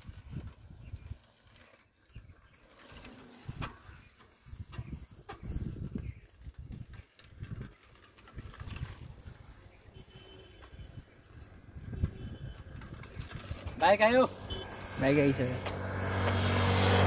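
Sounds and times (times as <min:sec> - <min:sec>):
bicycle clicks and rattles: 0:00.0 - 0:16.4
bicycle rumbling: 0:00.0 - 0:17.0.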